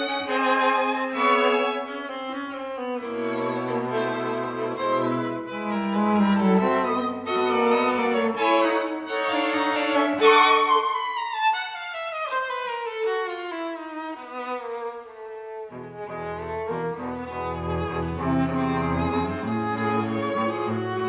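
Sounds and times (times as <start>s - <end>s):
bowed strings music: 0.0s - 21.0s.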